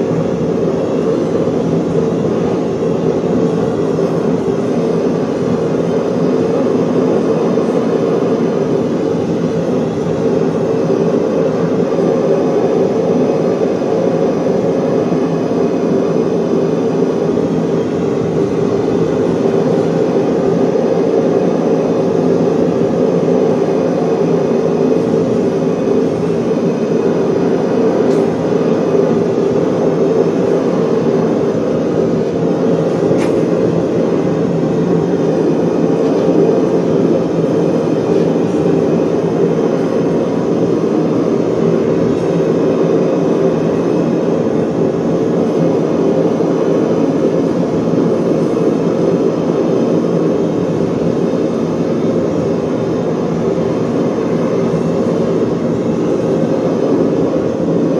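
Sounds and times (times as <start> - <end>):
workshop machinery roaring: 0.0 - 57.9.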